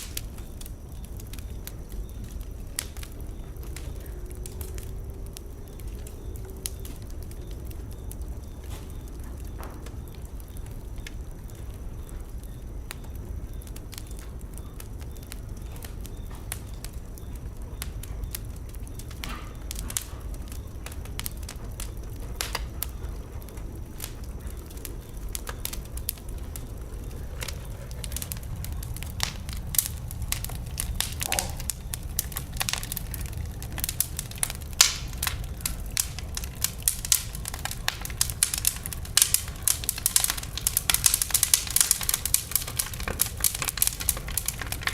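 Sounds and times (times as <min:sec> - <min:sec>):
fire crackling and popping: 0:00.0 - 0:44.9
fire flame rumbling: 0:00.0 - 0:44.9.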